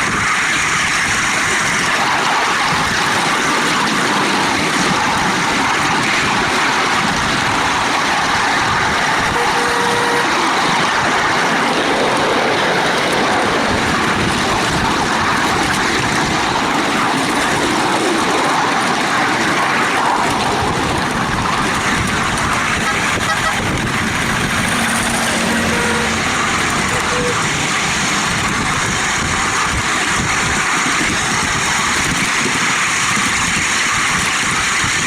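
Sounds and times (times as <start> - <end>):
miniature locomotive running: 0.0 - 35.0
train wheels rolling on rails: 0.0 - 35.0.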